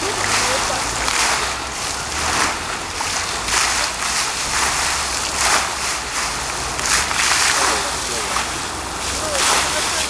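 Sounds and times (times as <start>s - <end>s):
fountain jets splashing: 0.0s - 10.0s.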